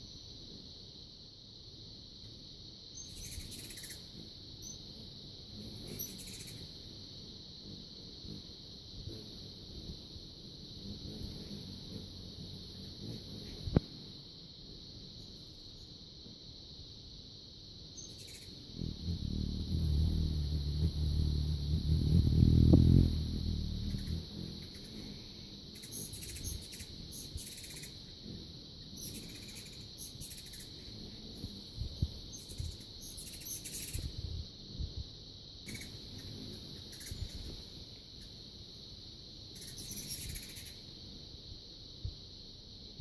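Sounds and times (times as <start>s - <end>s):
crickets trilling: 0.0s - 43.0s
high-pitched insect chirps: 0.0s - 43.0s.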